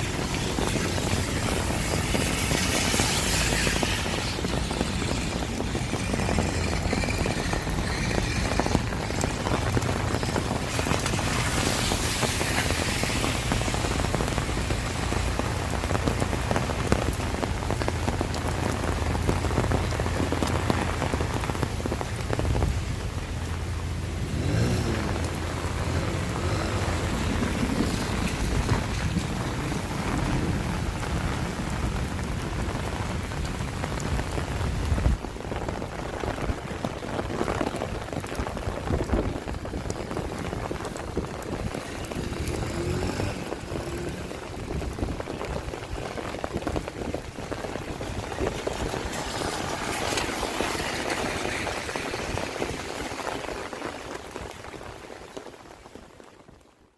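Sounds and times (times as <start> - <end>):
rain pattering on surfaces: 0.0 - 56.9.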